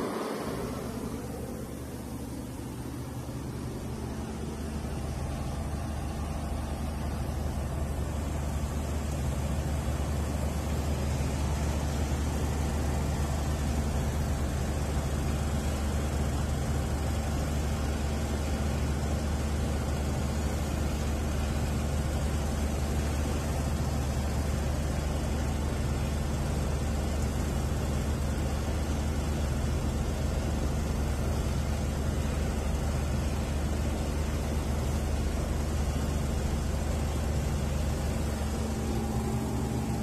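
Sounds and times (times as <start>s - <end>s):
shredding machine humming and hissing: 0.0s - 40.0s.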